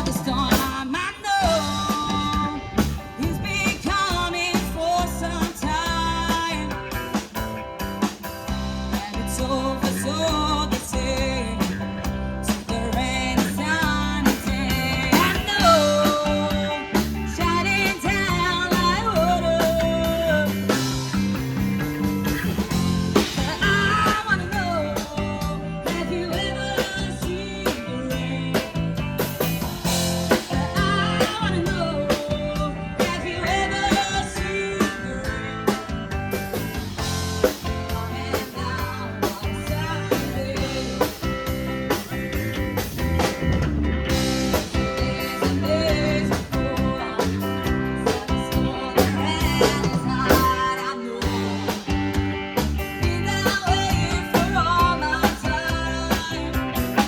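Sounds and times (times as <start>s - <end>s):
person singing: 0.0s - 7.0s, 8.9s - 20.9s, 23.3s - 36.2s, 37.4s - 41.3s, 44.5s - 52.2s, 52.8s - 57.0s
rock band playing: 0.0s - 57.0s.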